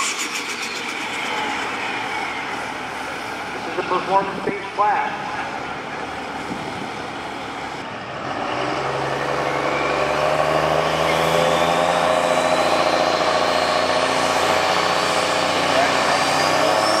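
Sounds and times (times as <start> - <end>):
diesel engine running: 0.0 - 17.0
high turbo whine: 0.0 - 17.0.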